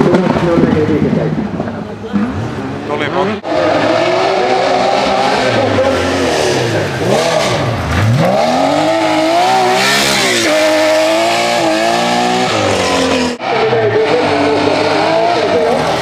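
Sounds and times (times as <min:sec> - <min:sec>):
rally car engine at full throttle: 0:00.0 - 0:16.0.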